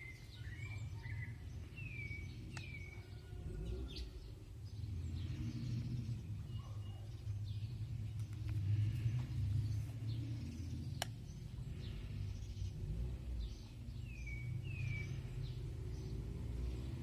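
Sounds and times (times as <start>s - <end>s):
birds chirping: 0.0s - 17.0s
low rumble: 1.6s - 17.0s.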